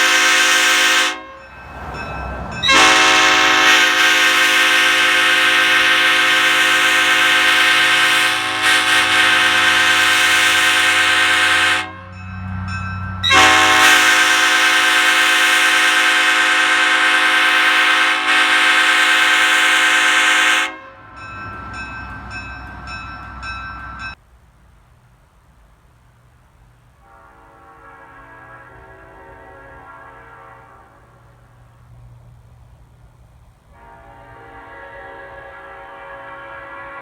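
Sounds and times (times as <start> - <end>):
train horn blasts: 0.0 - 23.0, 27.0 - 32.2, 33.7 - 37.0.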